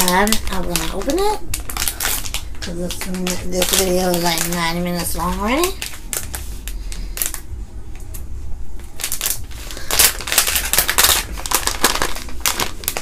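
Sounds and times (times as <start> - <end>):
plastic bag crinkling: 0.0 - 7.5, 8.8 - 13.0.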